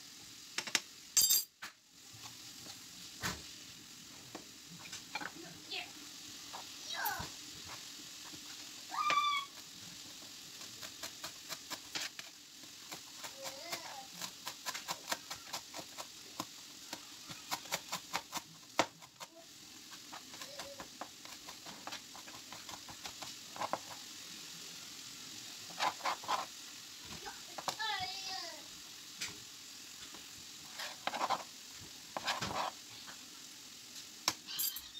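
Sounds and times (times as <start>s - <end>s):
pan sizzling: 0.0s - 34.9s.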